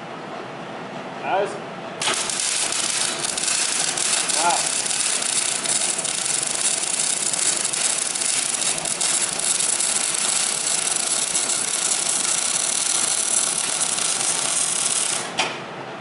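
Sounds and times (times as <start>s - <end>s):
welding arc crackling: 2.0s - 15.4s.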